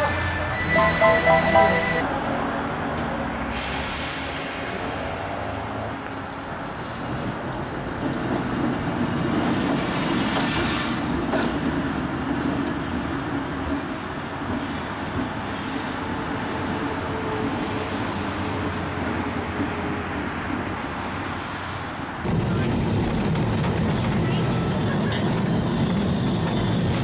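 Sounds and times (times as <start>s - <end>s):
tram rumbling on rails: 0.0s - 27.0s.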